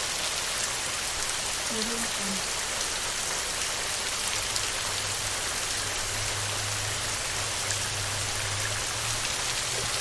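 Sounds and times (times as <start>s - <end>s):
heavy rain on a metal roof: 0.0s - 10.0s.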